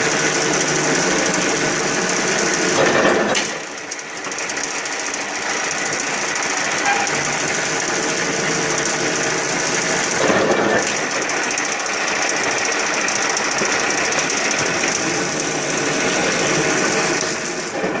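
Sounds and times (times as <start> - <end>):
wood-processing machine clattering: 0.0 - 18.0.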